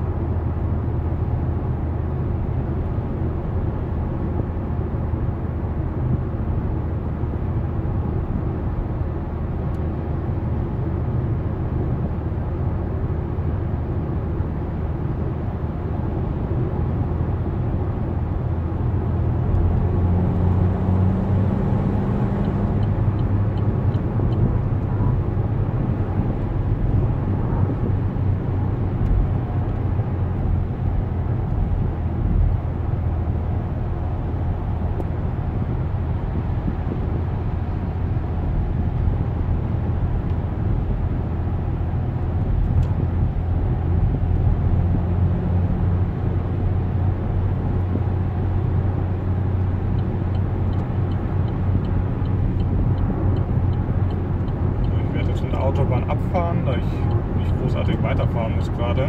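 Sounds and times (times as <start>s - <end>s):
car cabin road noise: 0.0s - 59.0s.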